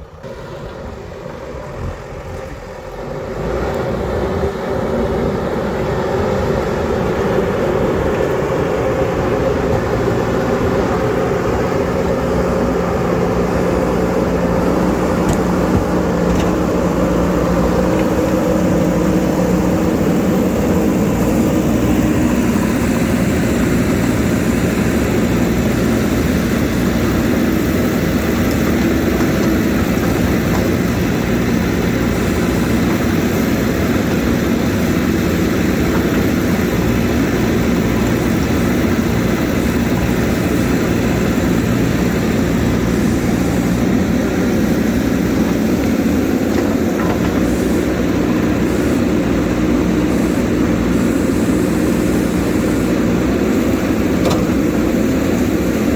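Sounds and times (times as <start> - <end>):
loud mechanical drone: 0.0 - 55.9.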